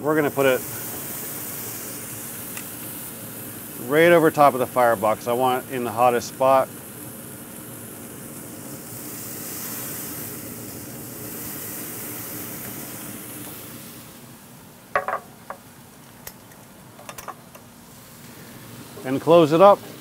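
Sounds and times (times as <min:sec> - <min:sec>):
chicken sizzling on grill: 0:00.0 - 0:20.0.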